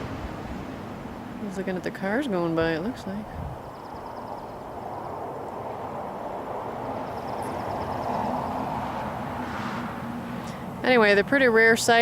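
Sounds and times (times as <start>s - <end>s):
car passing on road: 0.0s - 12.0s.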